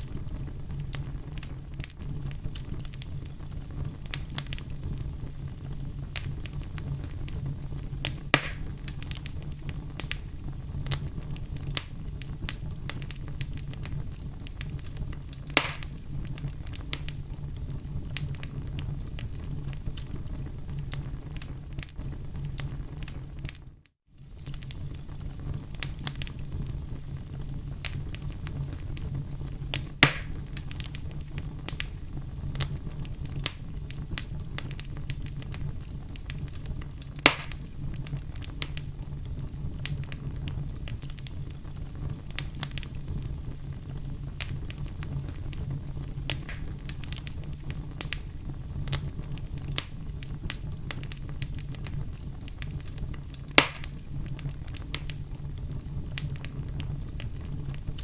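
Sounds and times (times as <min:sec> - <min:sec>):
sharp fire pops: 0:00.0 - 0:58.0
wood fire crackling: 0:00.0 - 0:58.0.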